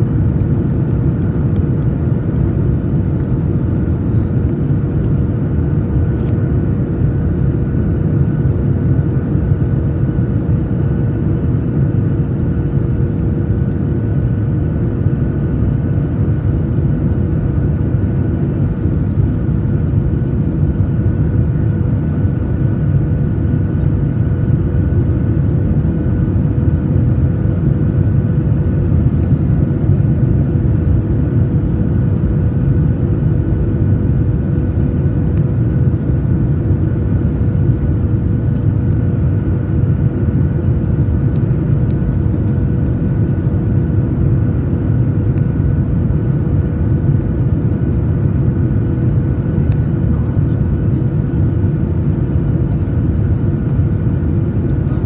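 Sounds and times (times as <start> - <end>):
airliner cabin engine rumble: 0.0 - 55.0
droning hum: 0.0 - 55.0.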